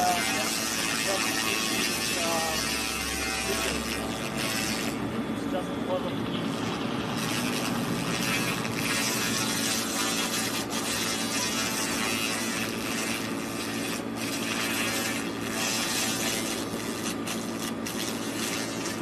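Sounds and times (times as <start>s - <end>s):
laser cleaner hissing: 0.0s - 19.0s
machine hum: 0.0s - 19.0s.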